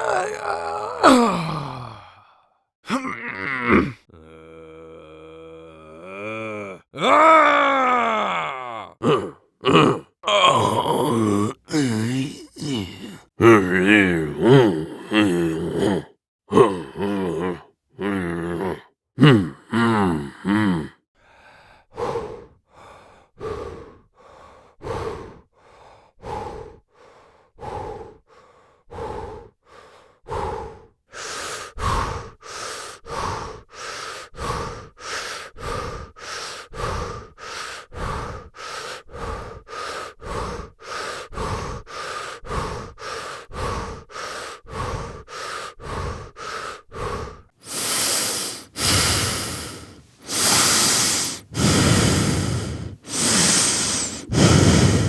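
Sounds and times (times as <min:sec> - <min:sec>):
person breathing heavily: 0:00.0 - 0:03.1, 0:08.0 - 0:55.0.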